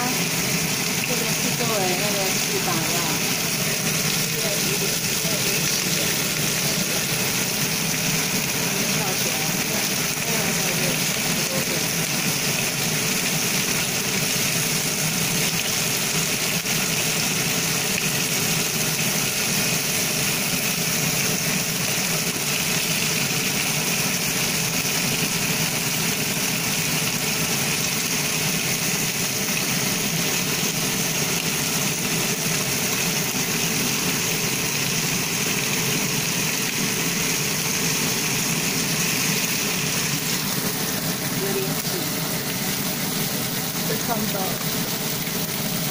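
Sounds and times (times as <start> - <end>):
fish sizzling in oil: 0.0 - 45.9.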